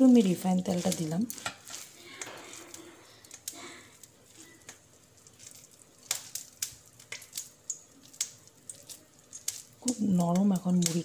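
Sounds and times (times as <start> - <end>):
dough squishing: 0.0 - 11.0.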